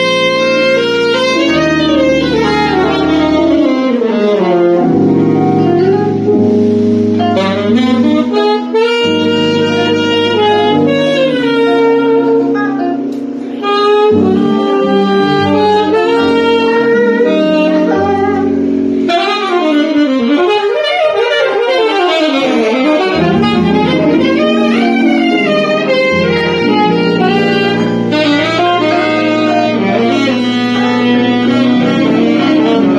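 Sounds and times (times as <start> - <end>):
live band playing slow r and b: 0.0 - 32.9
sliding lead melody: 0.0 - 32.9.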